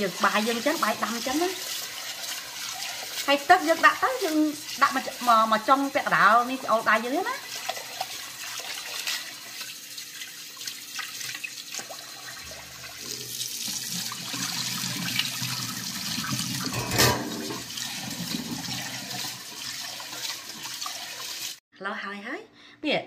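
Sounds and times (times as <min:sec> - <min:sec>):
rinse water pouring into sink: 0:00.0 - 0:21.6
tap water running into a pot: 0:00.0 - 0:21.6.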